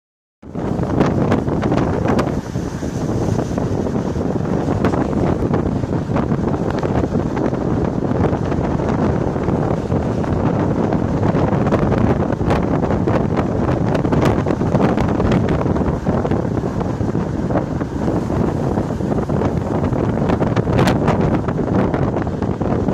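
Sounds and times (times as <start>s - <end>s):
wind buffeting microphone: 0.4s - 22.9s.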